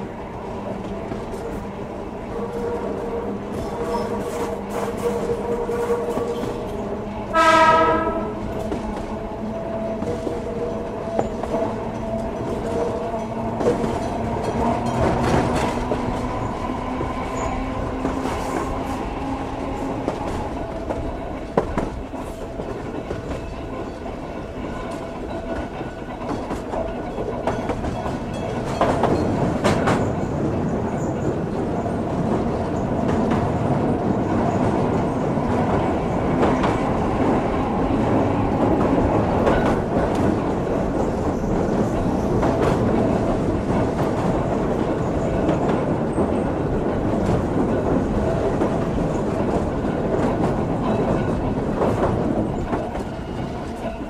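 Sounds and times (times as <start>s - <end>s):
train running rumble: 0.0s - 54.0s
wheels clacking over rail joints: 7.6s - 54.0s.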